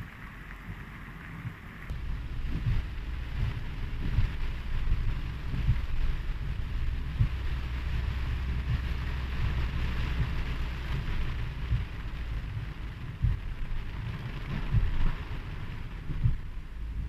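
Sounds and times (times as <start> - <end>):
rain hissing: 0.0 - 17.0
wind buffeting microphone: 0.0 - 17.0.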